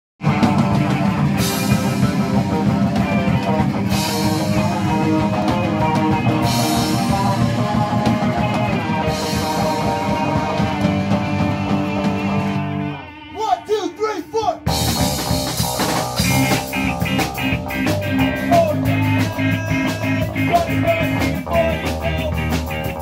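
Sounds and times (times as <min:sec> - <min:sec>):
rock band playing: 0:00.2 - 0:23.0.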